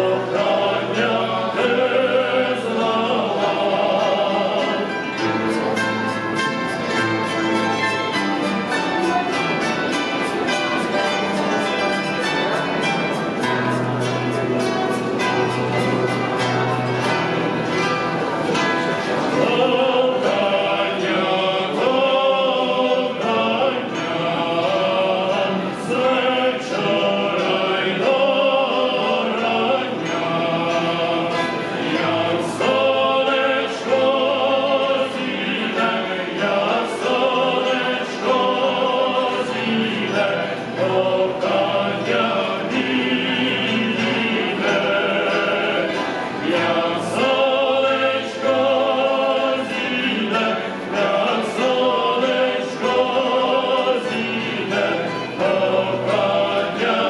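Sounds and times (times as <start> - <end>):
men singing: 0.0 - 8.1, 19.0 - 57.0
plucked lutes playing: 0.0 - 57.0.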